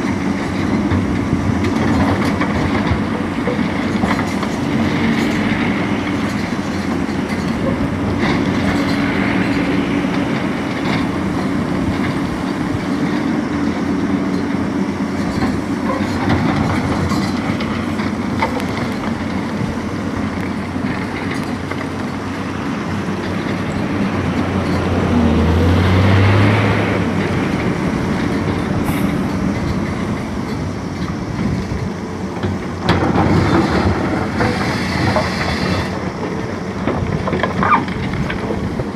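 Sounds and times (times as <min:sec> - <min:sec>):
excavator clattering: 0:00.0 - 0:38.9
excavator diesel engine: 0:00.0 - 0:38.9.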